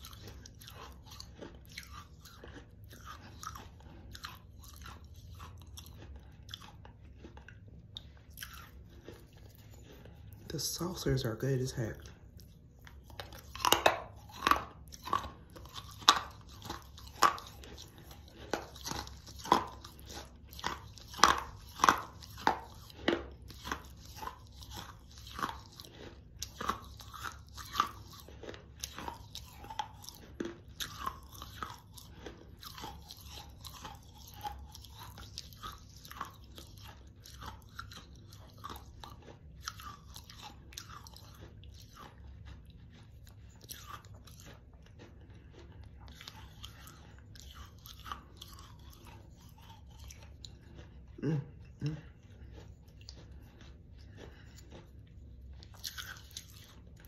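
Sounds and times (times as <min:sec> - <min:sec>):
teeth crunching hard clay: 0:00.0 - 0:57.0.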